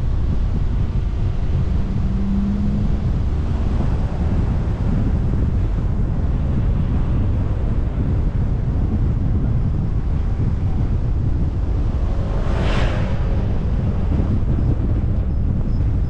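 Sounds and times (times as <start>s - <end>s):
car road noise rumble: 0.0s - 16.0s
wind noise on microphone: 0.0s - 16.0s.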